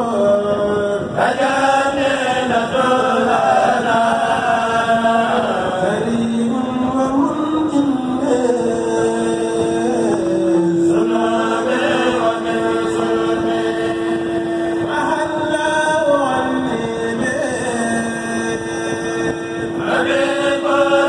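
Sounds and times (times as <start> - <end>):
men chanting in unison: 0.0 - 18.5, 19.8 - 21.0.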